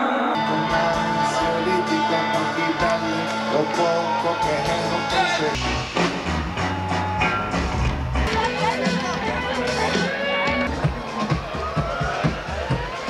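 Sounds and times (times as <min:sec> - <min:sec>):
electric guitar: 0:00.0 - 0:11.2
rock band playing live: 0:00.4 - 0:13.0.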